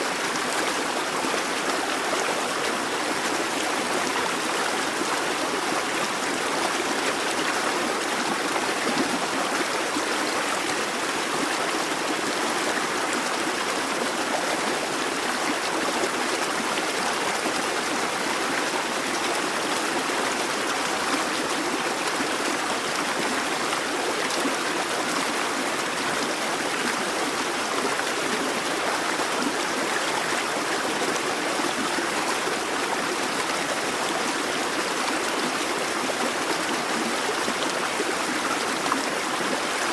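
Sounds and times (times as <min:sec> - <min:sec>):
brook burbling over stones: 0:00.0 - 0:39.9.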